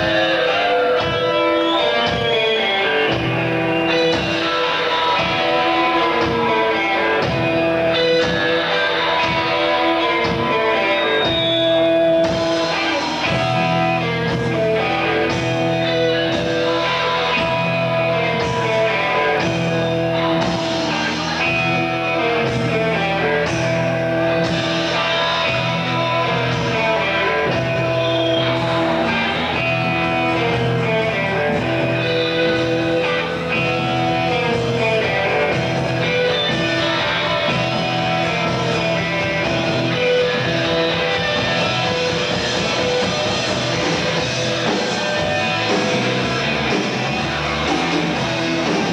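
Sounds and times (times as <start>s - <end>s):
electric guitar sustained notes: 0.0s - 48.9s
live rock band playing: 0.0s - 48.9s.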